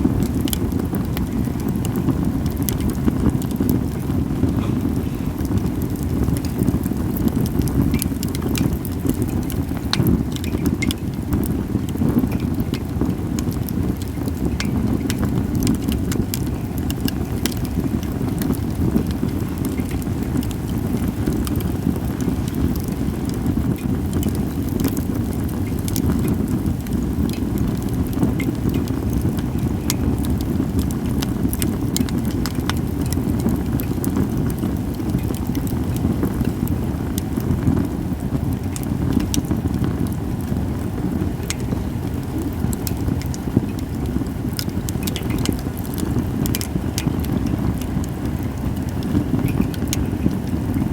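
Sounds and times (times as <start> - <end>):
campfire crackling: 0.0 - 50.9.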